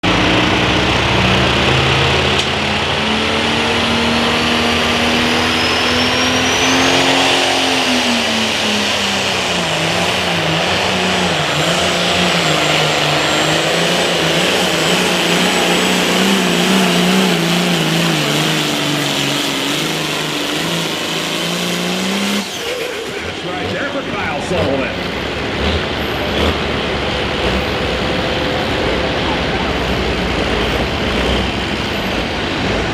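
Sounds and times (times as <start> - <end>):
diesel engine running hard: 0.0 - 32.9.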